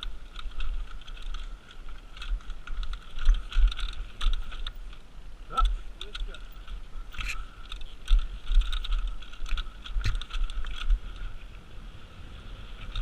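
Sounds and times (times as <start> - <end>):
bike clicking and rattling: 0.0 - 13.0
wind on camera: 0.0 - 13.0.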